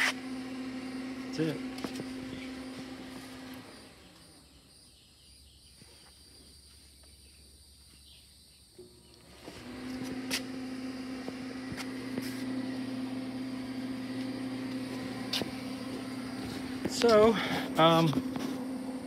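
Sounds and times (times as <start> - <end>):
welder electrical hum: 0.0 - 5.3, 8.6 - 19.0.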